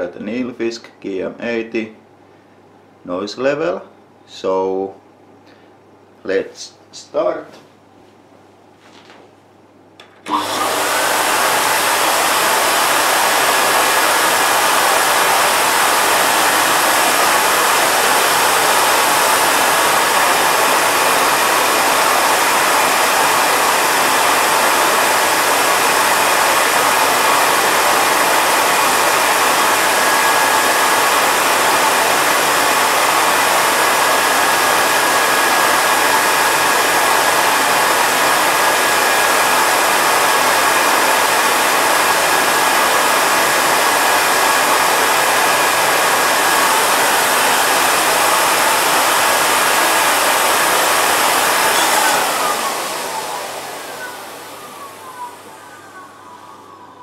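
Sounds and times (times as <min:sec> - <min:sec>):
vacuum cleaner running: 0:10.0 - 0:57.0.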